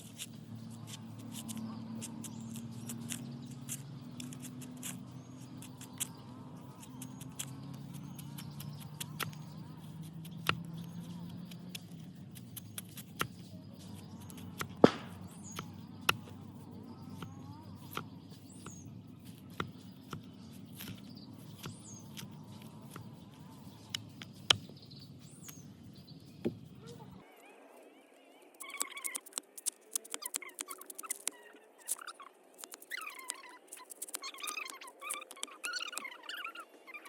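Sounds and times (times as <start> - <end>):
faint bird chirps: 0.0 - 37.0.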